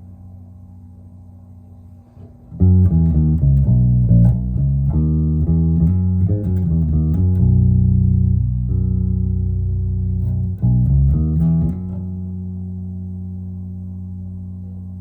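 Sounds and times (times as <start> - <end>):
electric bass plucked notes: 2.6 - 15.0.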